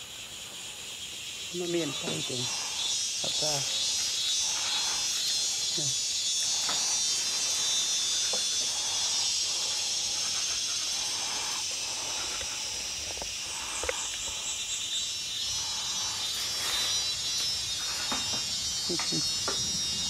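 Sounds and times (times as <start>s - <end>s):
fast pulsing insect call: 0.0s - 20.0s
insects droning: 0.0s - 20.0s.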